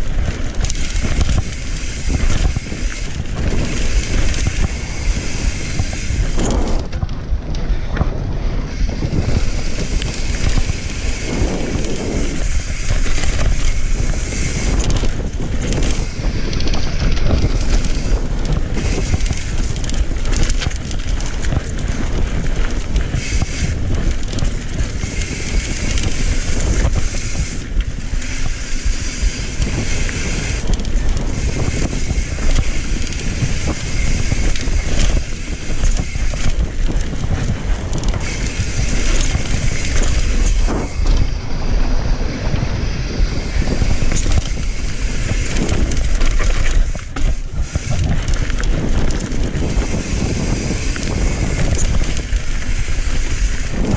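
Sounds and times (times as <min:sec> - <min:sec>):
bike knocks and rattles: 0:00.0 - 0:53.9
tyres rolling over dirt: 0:00.0 - 0:53.9
wind buffeting microphone: 0:00.0 - 0:53.9.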